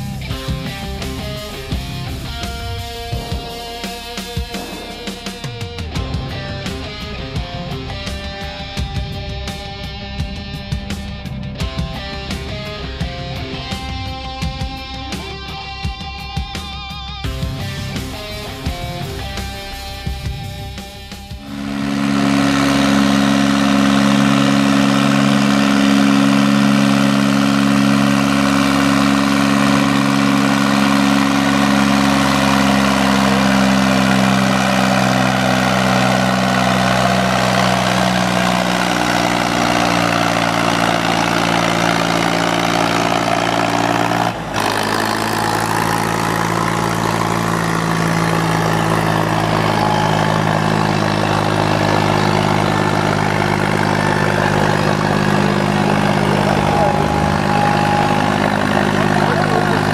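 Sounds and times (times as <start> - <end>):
tractor diesel engine under load: 0.0 - 15.8, 17.2 - 59.9.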